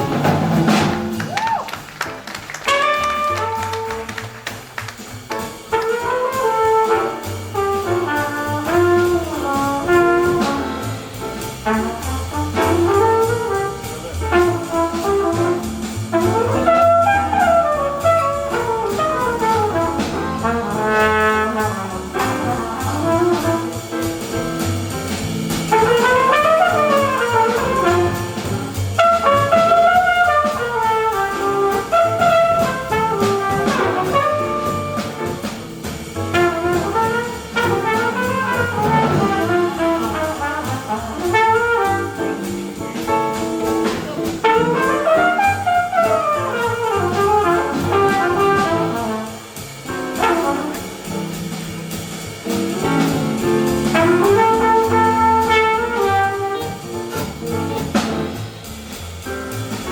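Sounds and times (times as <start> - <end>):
jazz band playing: 0.0 - 59.9
flugelhorn melody: 2.5 - 4.3, 5.6 - 24.3, 25.6 - 51.7, 52.6 - 58.4.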